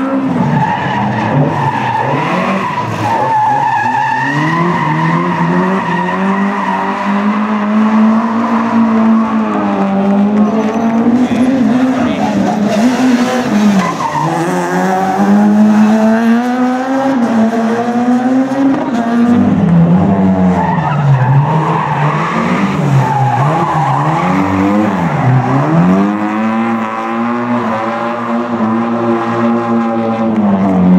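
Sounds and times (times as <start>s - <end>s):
rally car engine revving: 0.0s - 30.9s
tyres skidding: 0.0s - 30.9s.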